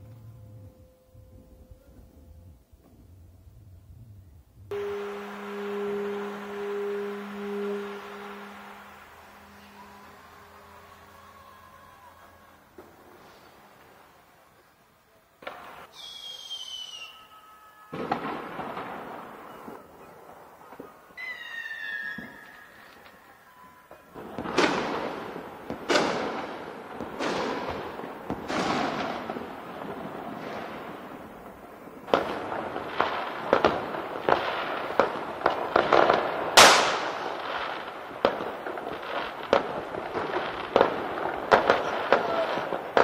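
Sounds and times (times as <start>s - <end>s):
distant fireworks bangs: 4.7s - 14.6s, 15.4s - 17.1s, 17.9s - 43.0s
fireworks crackling: 4.7s - 43.0s.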